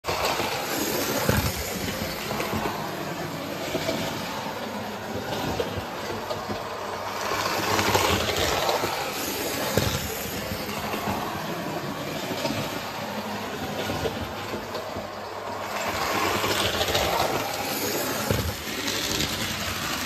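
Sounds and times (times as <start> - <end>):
model train rattling whir: 0.0 - 20.0
wheels clicking on rail joints: 0.0 - 20.0.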